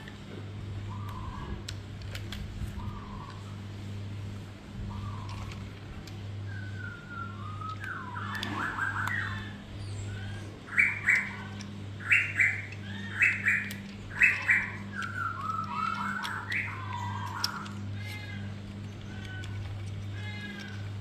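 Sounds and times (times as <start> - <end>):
steady low hum: 0.0 - 21.0
bird calling: 0.8 - 1.6, 2.7 - 3.6, 4.8 - 5.8, 6.4 - 21.0.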